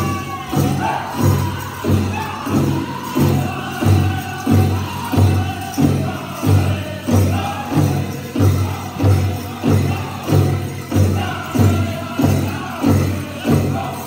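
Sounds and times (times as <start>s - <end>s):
bells jingling: 0.0s - 14.0s
group singing: 0.0s - 14.0s.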